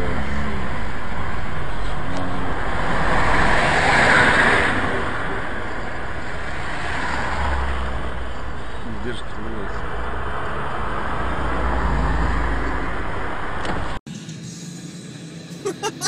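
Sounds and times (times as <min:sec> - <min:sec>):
passing vehicle road noise: 0:00.0 - 0:14.0
traffic rumble: 0:00.0 - 0:14.0.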